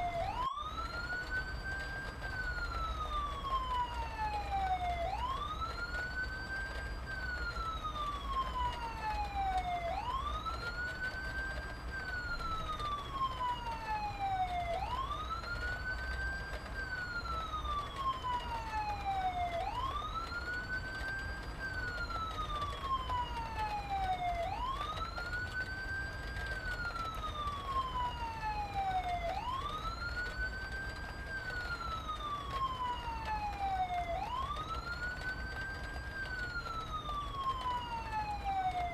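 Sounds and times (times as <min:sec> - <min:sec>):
emergency vehicle siren wailing: 0:00.0 - 0:38.9.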